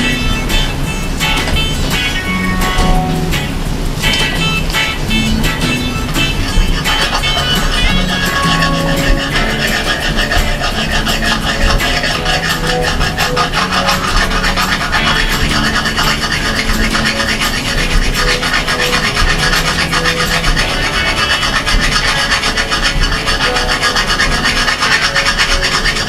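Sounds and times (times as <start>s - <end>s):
hand file rubbing on metal: 0.0s - 26.0s.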